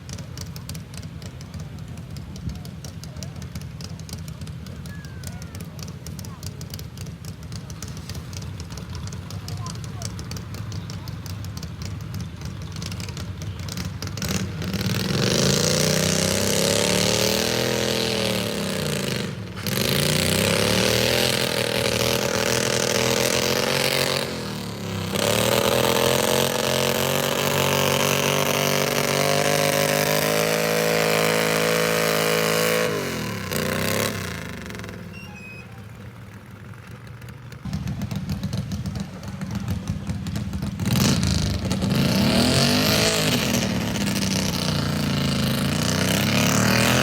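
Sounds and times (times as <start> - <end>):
tractor engine revving hard: 0.0 - 47.0.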